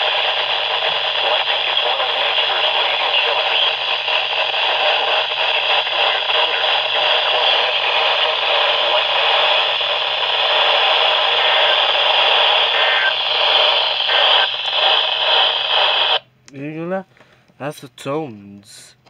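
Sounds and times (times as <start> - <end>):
radio static hiss: 0.0 - 16.3.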